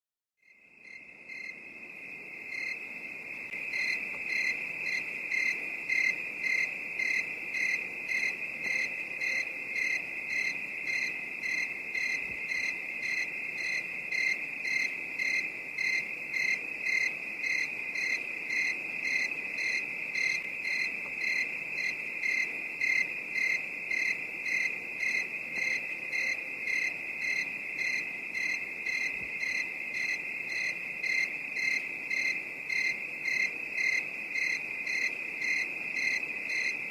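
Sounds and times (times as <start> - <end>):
crickets trilling and chirping: 0.4 - 36.9.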